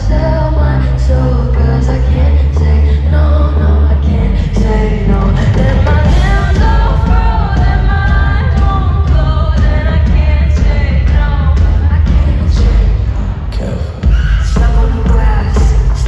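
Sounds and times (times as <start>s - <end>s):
bass-heavy backing track: 0.0s - 16.0s
woman singing into a microphone: 0.0s - 16.0s.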